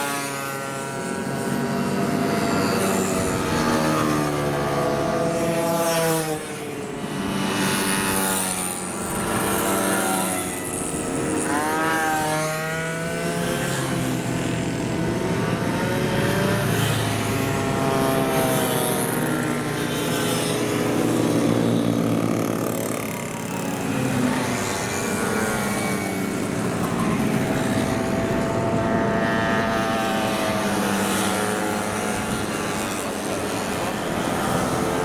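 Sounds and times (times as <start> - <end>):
moped engines revving past: 0.0 - 35.0.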